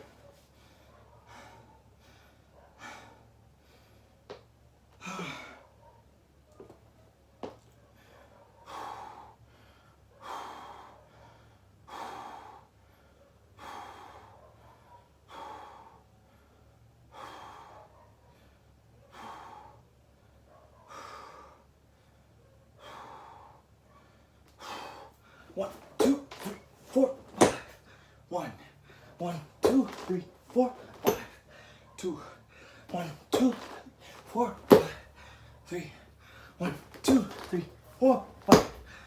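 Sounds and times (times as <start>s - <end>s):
man breathing hard: 0.4s - 4.3s, 5.0s - 5.7s, 7.9s - 30.0s, 30.6s - 37.1s, 38.0s - 39.0s.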